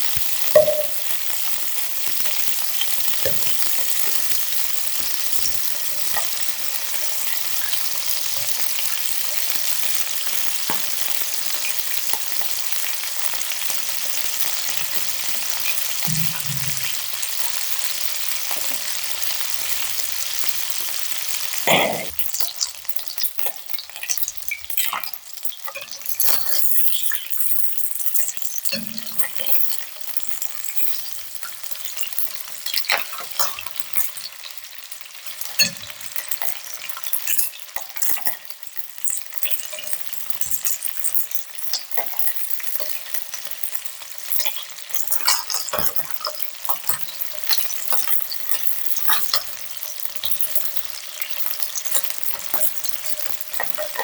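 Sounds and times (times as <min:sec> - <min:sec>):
chicken wings sizzling in a pan: 0:00.0 - 0:54.0.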